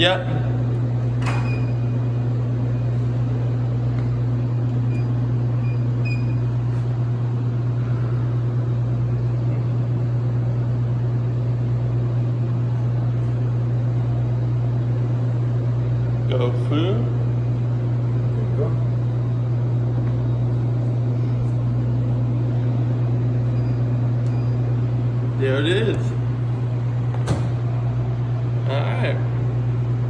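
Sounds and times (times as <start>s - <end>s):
vending machine hum: 0.0s - 30.0s.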